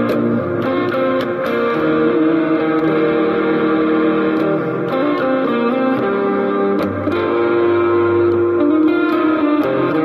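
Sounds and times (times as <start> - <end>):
electric guitar sustained notes: 0.0 - 10.0.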